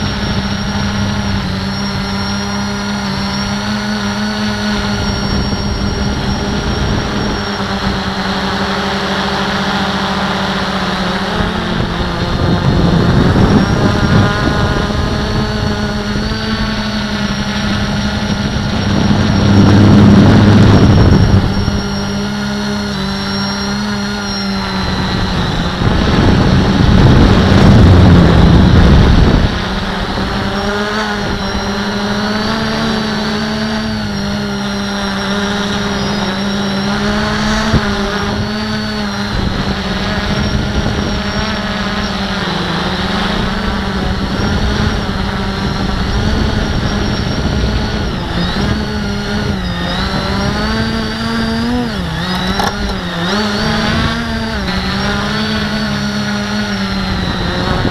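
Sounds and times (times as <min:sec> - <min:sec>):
quadcopter motors humming: 0:00.0 - 0:57.9.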